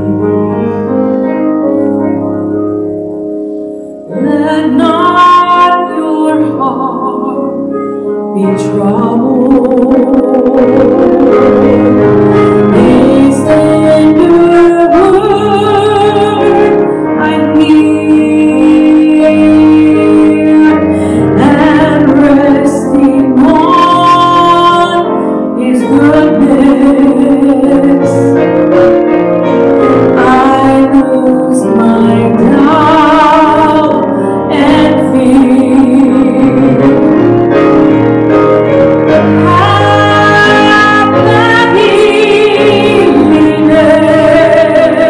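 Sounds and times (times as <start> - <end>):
piano accompaniment: 0.0 - 45.0
woman singing with vibrato: 4.1 - 7.8, 8.4 - 28.4, 30.2 - 37.4, 39.2 - 45.0.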